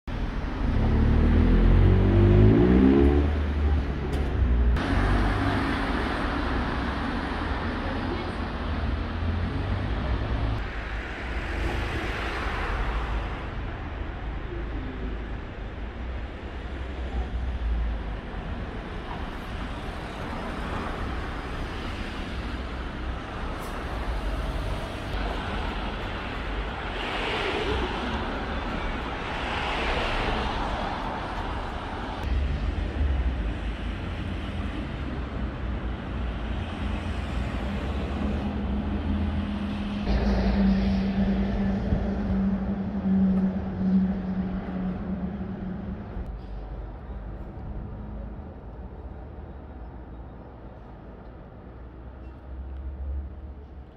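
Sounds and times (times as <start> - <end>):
cars passing on road: 0.1 - 53.9.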